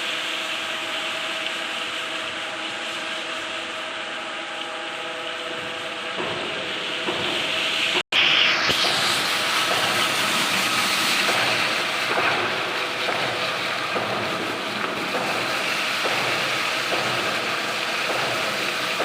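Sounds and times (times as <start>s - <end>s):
plastering machine running: 0.0s - 19.0s.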